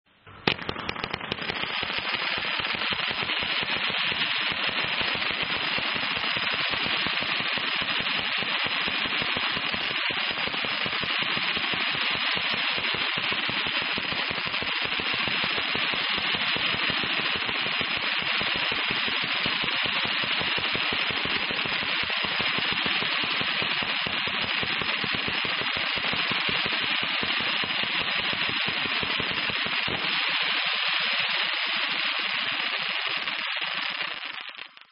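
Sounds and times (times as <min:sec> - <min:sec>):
firework rapid pops: 0:00.2 - 0:34.9.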